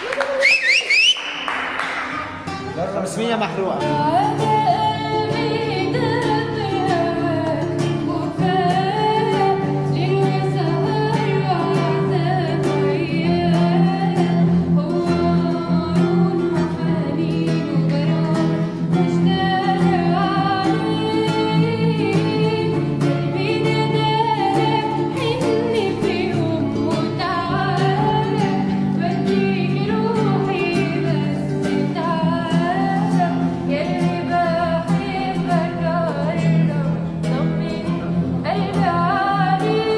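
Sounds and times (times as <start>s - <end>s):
instrumental accompaniment: 1.3s - 39.9s.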